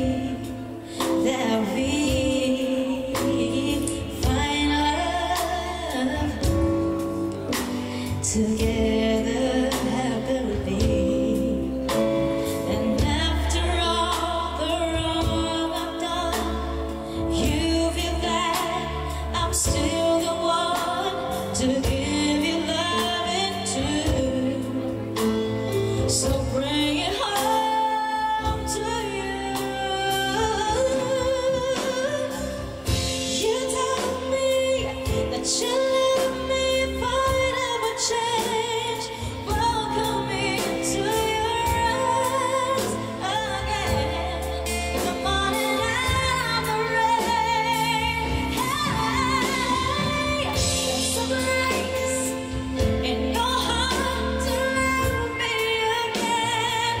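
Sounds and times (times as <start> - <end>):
live band playing: 0.0 - 57.0
woman singing ballad: 0.0 - 57.0.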